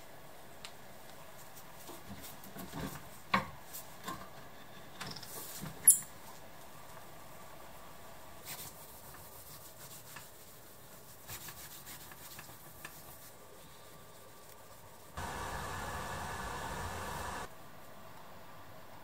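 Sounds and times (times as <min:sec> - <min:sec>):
steady hiss with low hum: 0:00.0 - 0:19.0.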